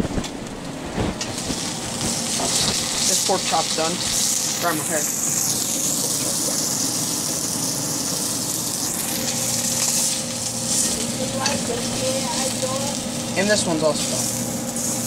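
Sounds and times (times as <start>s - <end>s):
meat sizzling in a pan: 1.2s - 15.0s.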